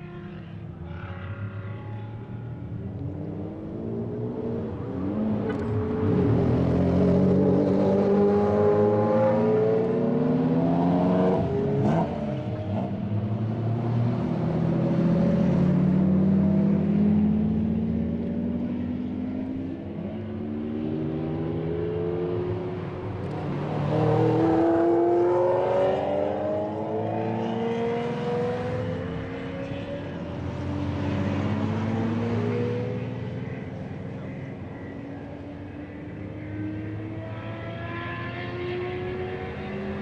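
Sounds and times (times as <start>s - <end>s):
car engines accelerating past: 0.4s - 40.0s.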